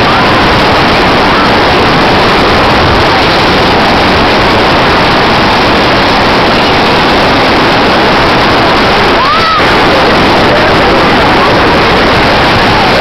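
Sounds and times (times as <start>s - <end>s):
loud steady rushing noise: 0.0s - 13.0s.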